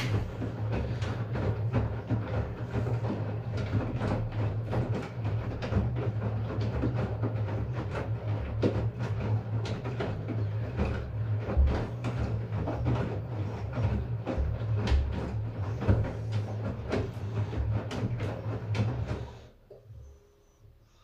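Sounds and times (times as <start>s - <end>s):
laundry knocking in drum: 0.0s - 19.2s
washing machine motor hum: 0.0s - 21.0s.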